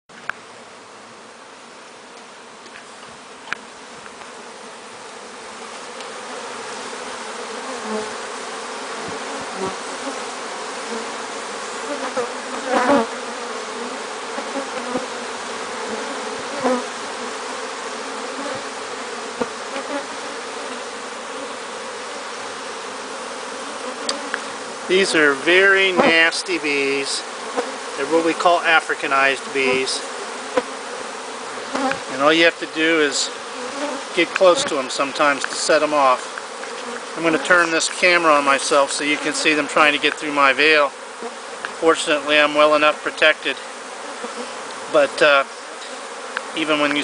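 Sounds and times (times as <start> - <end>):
bees buzzing: 0.2 - 47.0
bee zipping past: 1.9 - 47.0.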